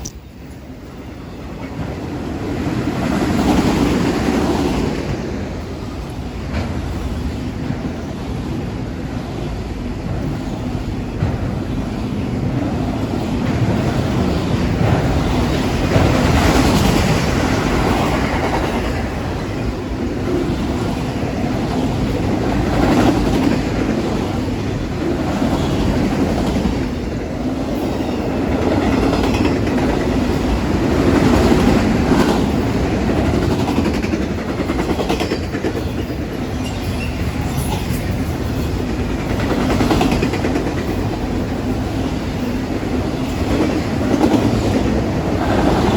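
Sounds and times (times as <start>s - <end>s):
freight train wheels rumbling on rail: 0.0s - 45.9s.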